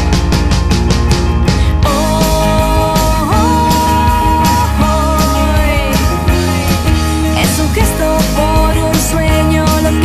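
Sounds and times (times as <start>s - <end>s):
song with quick steady beat: 0.0s - 10.0s.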